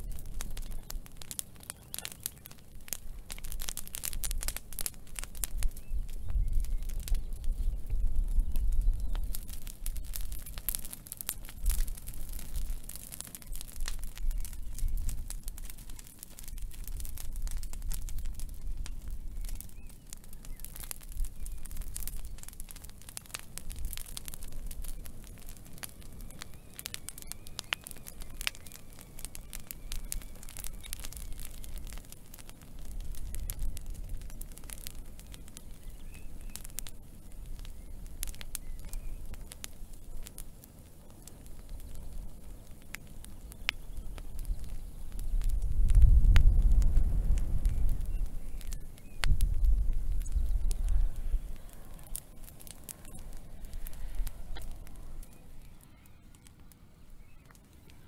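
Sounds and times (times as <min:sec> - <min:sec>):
low rumble of flame: 0:00.0 - 0:58.0
wood fire crackling and popping: 0:00.0 - 0:58.0.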